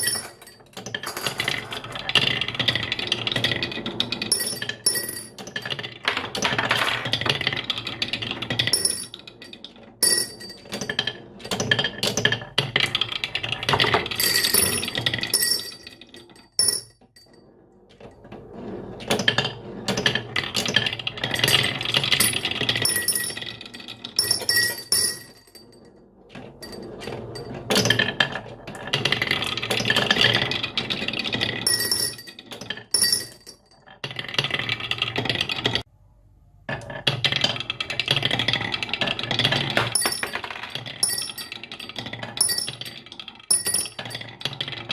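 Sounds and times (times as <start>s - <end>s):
marbles rolling and clattering: 0.0s - 35.9s, 36.7s - 44.9s.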